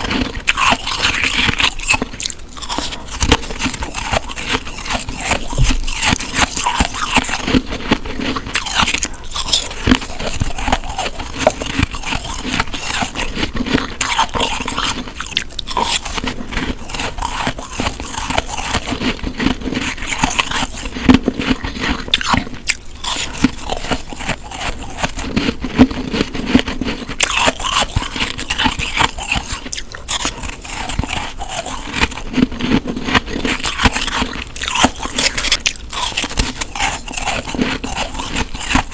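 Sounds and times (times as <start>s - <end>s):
teeth crunching snow: 0.0s - 38.9s.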